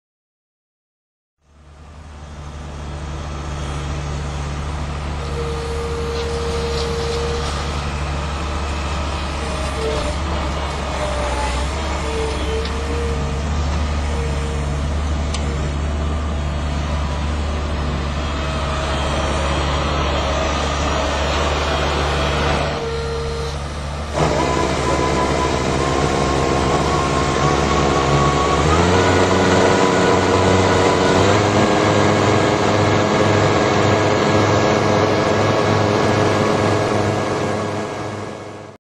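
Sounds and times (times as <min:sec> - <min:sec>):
loader engine running: 0:01.4 - 0:38.8.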